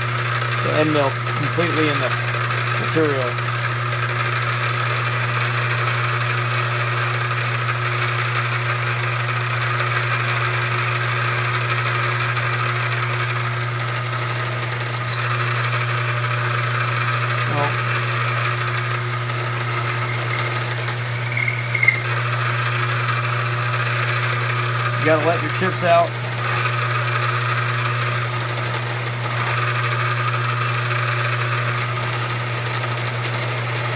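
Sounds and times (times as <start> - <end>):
cutter squealing: 0.0 - 30.5, 31.5 - 33.9
milling machine spindle humming: 0.0 - 33.9.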